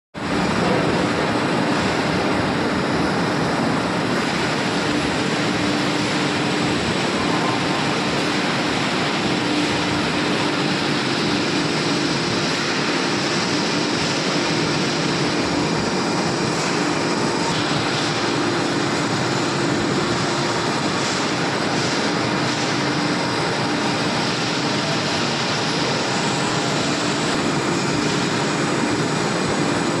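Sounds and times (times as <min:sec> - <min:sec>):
lathe machining noise: 0:00.2 - 0:30.0.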